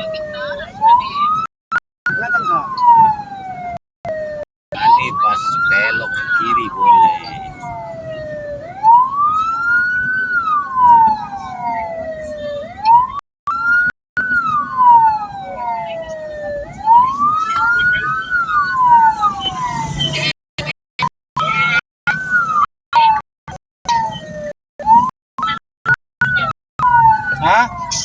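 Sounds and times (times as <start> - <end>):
wailing vehicle siren: 0.0 - 1.5, 2.1 - 20.3, 21.4 - 25.6, 26.2 - 28.0.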